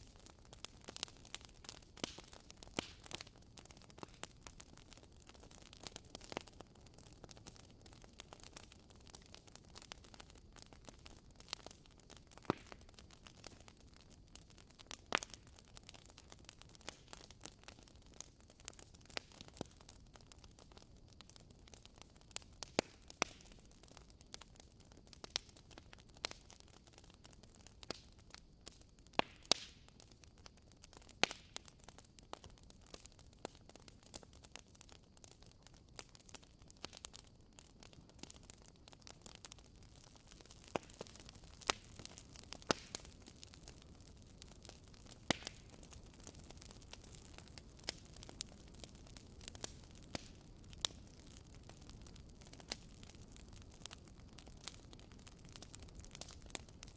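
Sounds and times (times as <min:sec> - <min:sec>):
faint hiss of burning logs: 0:00.0 - 0:56.9
wood fire crackling and popping: 0:00.0 - 0:56.9.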